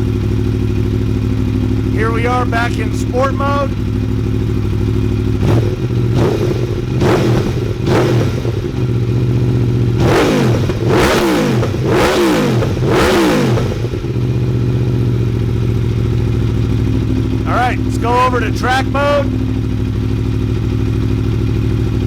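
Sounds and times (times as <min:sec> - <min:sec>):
motorcycle engine idling: 0:00.0 - 0:22.0
motorcycle engine revving: 0:00.0 - 0:22.0.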